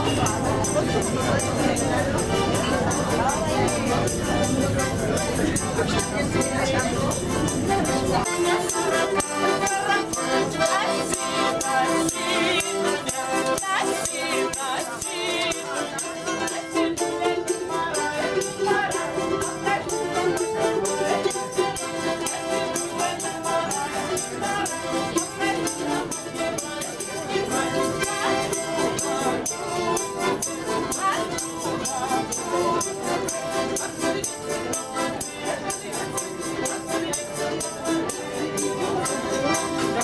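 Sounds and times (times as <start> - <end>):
balalaika strumming: 0.0 - 40.0
tambourine jingling: 0.0 - 40.0.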